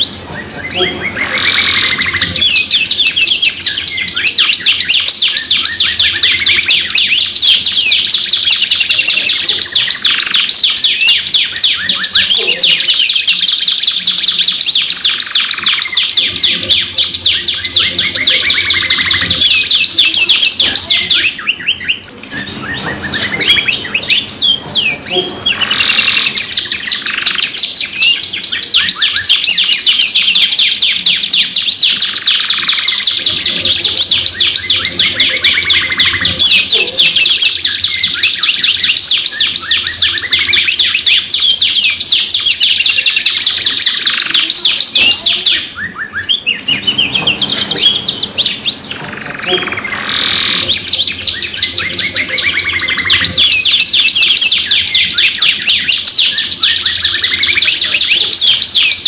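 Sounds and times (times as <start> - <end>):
canaries singing trills and chirps: 0.0 - 59.0.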